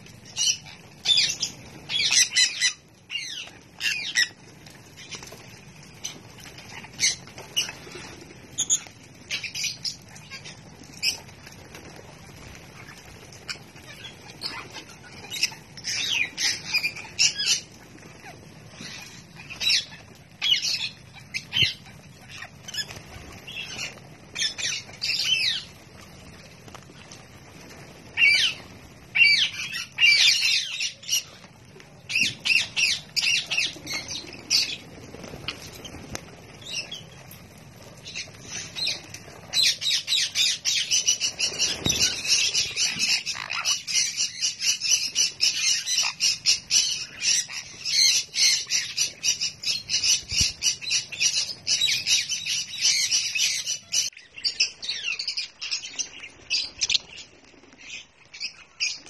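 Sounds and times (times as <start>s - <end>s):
parrots squawking and chattering: 0.0s - 59.0s.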